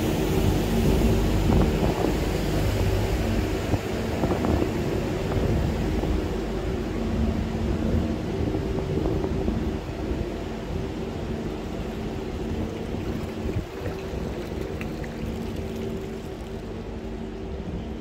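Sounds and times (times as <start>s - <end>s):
street noise rumble: 0.0s - 18.0s
vehicle engine humming: 0.0s - 18.0s.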